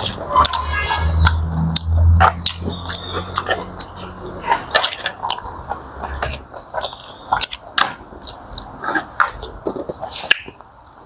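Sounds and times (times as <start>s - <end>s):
chewing and biting: 0.0s - 11.0s
food clicks and crackles: 1.3s - 11.0s.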